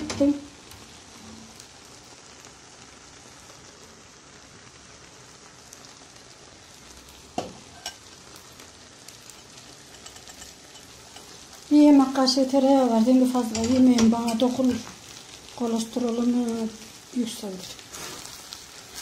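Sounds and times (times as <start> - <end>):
butter sizzling: 0.0 - 19.0.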